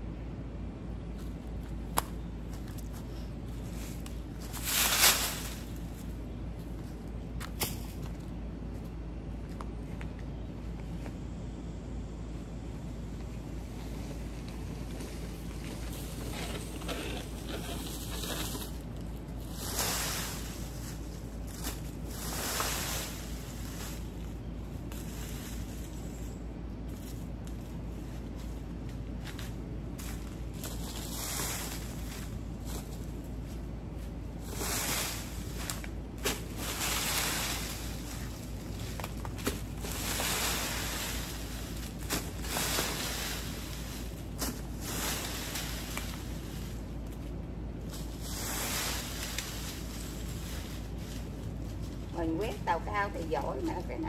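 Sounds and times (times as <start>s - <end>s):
steady low rumble: 0.0s - 54.0s
rake dragging leaves on ground: 1.2s - 8.3s, 13.4s - 54.0s.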